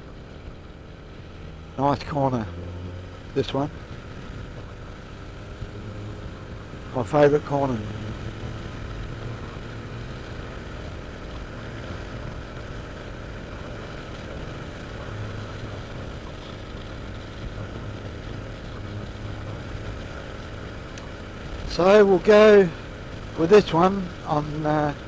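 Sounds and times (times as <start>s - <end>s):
low vehicle engine drone: 0.0s - 25.0s.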